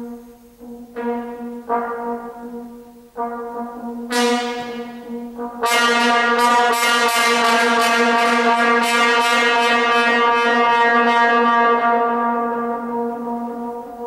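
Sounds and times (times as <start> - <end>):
trombone sustained note: 0.0 - 14.0.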